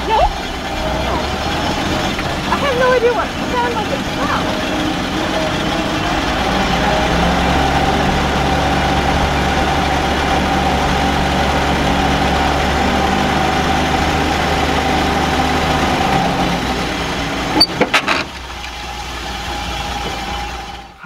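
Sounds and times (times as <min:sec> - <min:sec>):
jeep engine running: 0:00.0 - 0:21.0.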